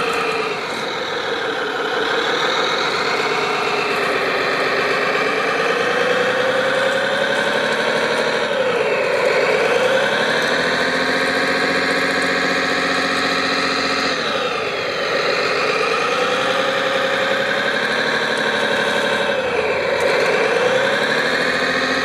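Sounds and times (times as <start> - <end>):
model machine engine running: 0.0 - 22.0.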